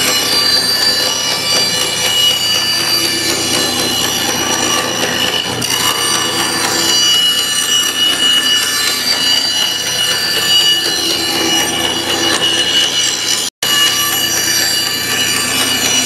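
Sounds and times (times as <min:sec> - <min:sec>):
band saw cutting wood: 0:00.0 - 0:16.0
high whine of saw: 0:00.0 - 0:16.0.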